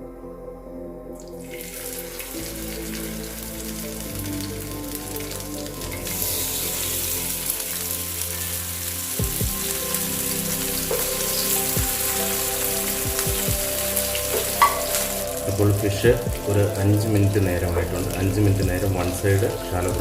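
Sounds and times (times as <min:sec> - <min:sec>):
fish sizzling in a pan: 0:01.5 - 0:20.0.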